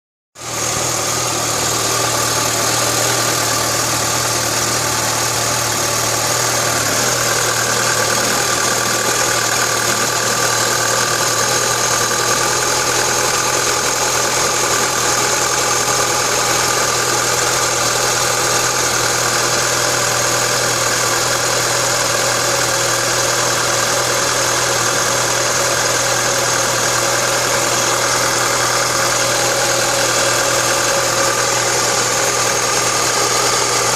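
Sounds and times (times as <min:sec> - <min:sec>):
car engine idling: 0:00.4 - 0:33.9.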